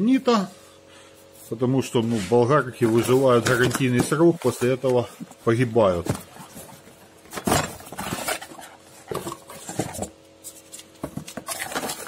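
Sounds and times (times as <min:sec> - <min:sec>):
plastic and cardboard rustling: 0:01.2 - 0:12.0.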